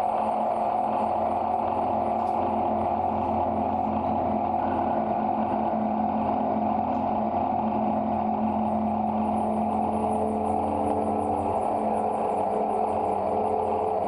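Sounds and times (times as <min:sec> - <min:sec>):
electronic drone music: 0:00.0 - 0:14.0
high-pitched fluttering pulse: 0:00.0 - 0:14.0.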